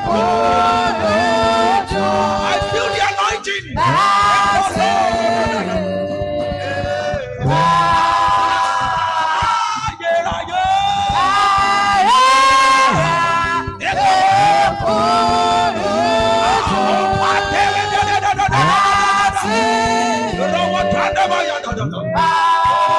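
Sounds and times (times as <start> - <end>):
church worship singing: 0.0 - 22.9.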